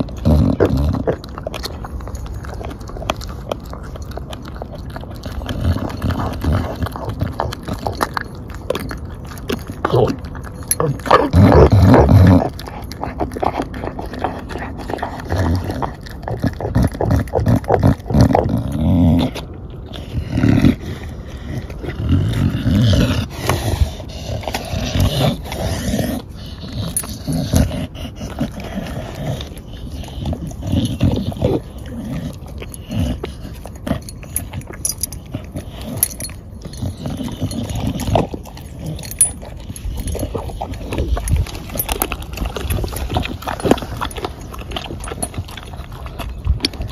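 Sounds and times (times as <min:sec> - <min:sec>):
dog chewing meat and bone: 0:00.0 - 0:46.9.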